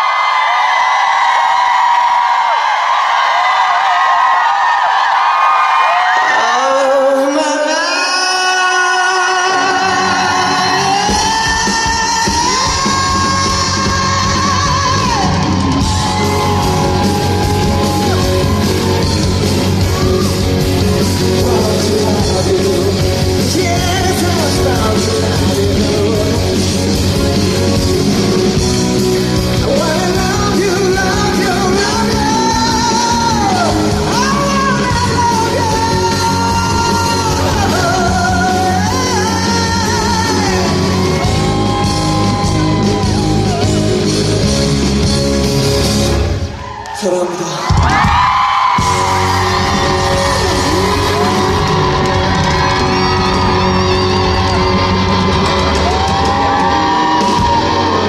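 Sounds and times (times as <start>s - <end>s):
audience yelling: 0.0s - 58.0s
live rock band playing: 7.6s - 46.6s, 47.7s - 58.0s.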